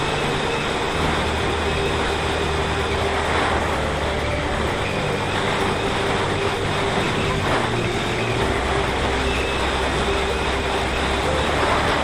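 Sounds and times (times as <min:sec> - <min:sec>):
drone propeller and motor: 0:00.0 - 0:12.0
faint steady hum: 0:00.0 - 0:12.0.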